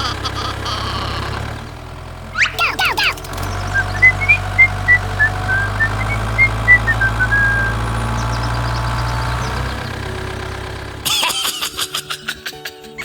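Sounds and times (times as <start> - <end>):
small engine idling: 0.0 - 11.6.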